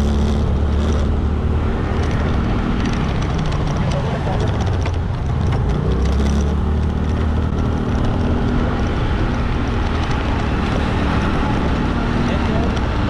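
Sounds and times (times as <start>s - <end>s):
motorbike engine running: 0.0s - 13.0s
road and wind noise: 0.0s - 13.0s.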